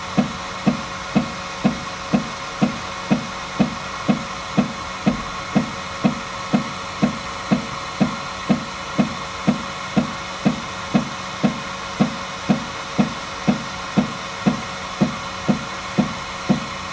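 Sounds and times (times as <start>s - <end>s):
fans humming: 0.0s - 16.9s
printer knocking: 0.0s - 16.9s.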